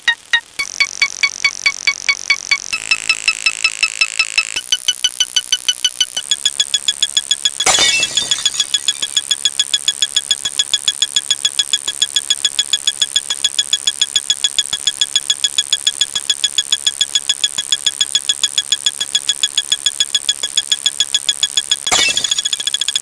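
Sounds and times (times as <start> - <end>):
rapid high-pitched ticks: 0.0 - 7.8, 8.4 - 23.0.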